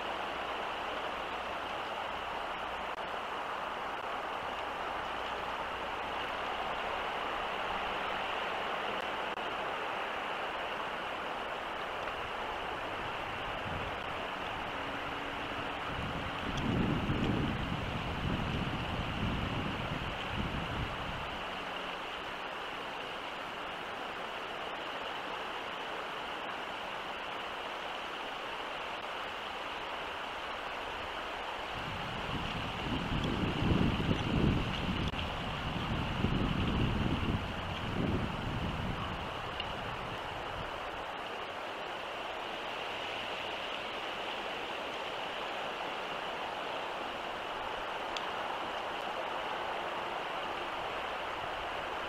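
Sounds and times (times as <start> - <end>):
low wind rumble on microphone: 0.0 - 52.0
outdoor background hiss: 0.0 - 52.0.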